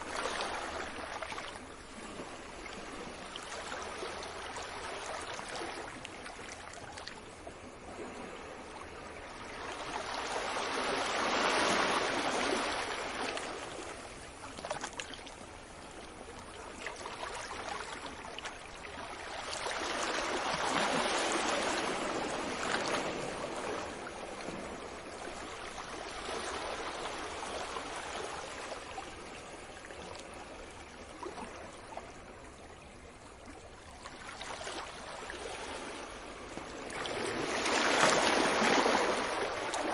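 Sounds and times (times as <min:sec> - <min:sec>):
ocean surf on a beach: 0:00.0 - 0:14.6, 0:15.4 - 0:33.3, 0:34.2 - 0:39.9
waves breaking: 0:00.0 - 0:39.9.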